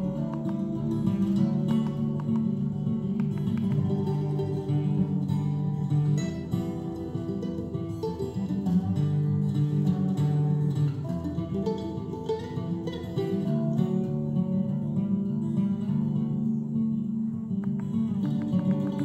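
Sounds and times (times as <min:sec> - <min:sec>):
guitar music through speakers: 0:00.0 - 0:19.0.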